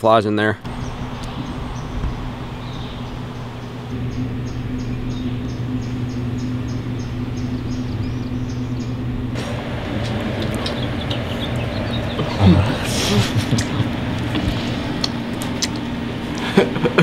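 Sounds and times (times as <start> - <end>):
low mechanical hum: 0.5 - 17.0.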